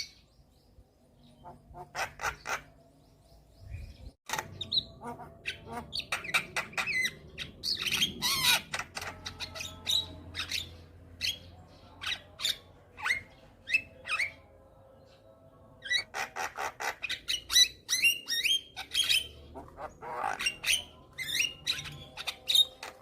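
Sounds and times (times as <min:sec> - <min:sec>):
myna bird singing: 0:00.0 - 0:23.0.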